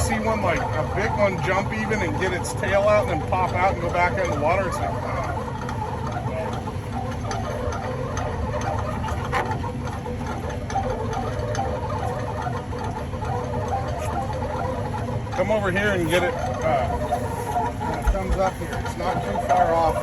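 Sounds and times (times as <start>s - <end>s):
boat engine running: 0.0s - 20.0s
crab-pot hauler winching: 0.0s - 20.0s.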